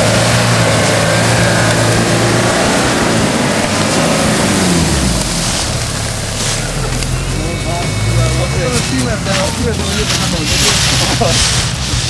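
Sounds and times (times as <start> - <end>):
car engine running under load: 0.0 - 12.0.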